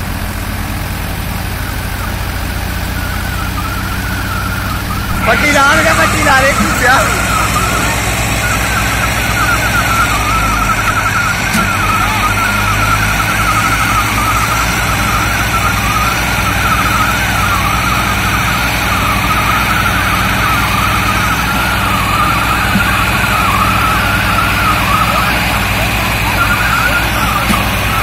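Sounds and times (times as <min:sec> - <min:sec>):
tractor engines under load: 0:00.0 - 0:28.0
wavering high warbling tone: 0:01.2 - 0:28.0.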